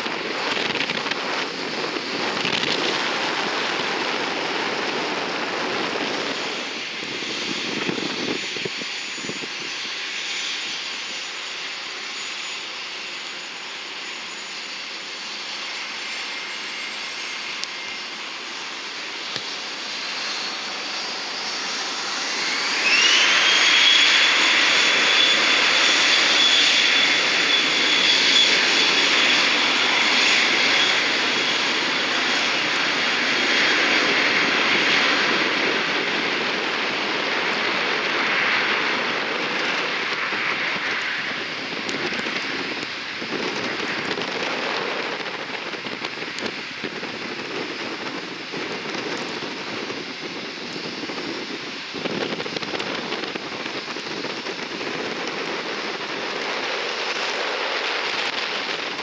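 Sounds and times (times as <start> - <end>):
jet engine whine rising: 0.0 - 59.0
jet engines rushing: 0.0 - 59.0
jet roar: 0.0 - 59.0.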